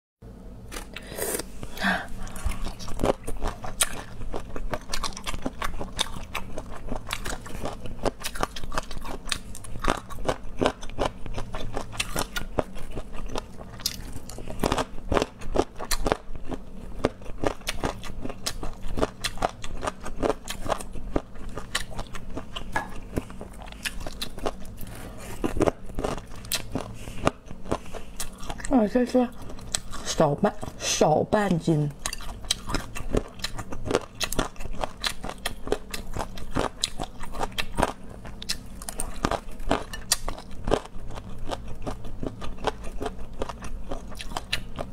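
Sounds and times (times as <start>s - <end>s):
person chewing: 0.6s - 30.8s, 32.0s - 44.9s.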